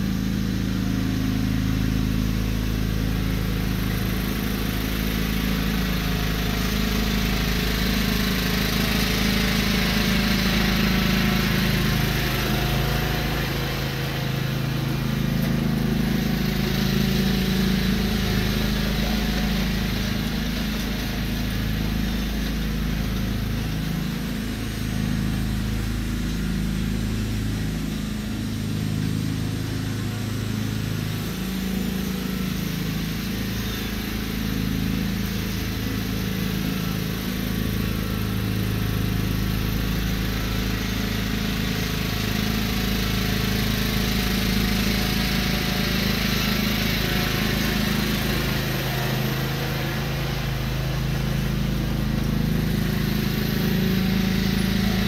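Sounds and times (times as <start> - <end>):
riding lawn tractor engine running: 0.0 - 55.0.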